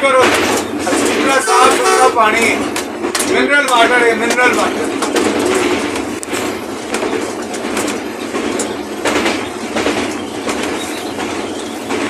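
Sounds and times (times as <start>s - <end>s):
rail joint clacks: 0.0s - 12.0s
train wheels rumbling on rails: 0.0s - 12.0s.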